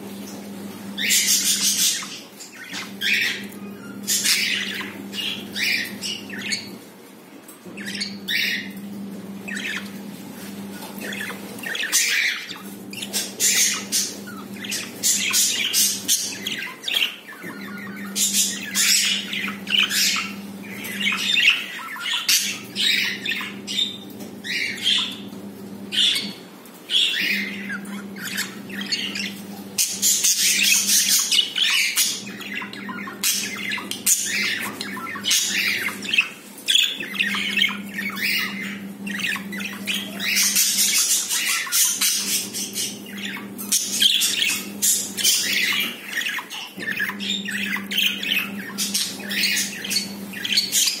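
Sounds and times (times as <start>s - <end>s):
budgerigars chattering: 1.0s - 6.8s, 7.7s - 8.8s, 10.8s - 25.3s, 25.9s - 51.0s.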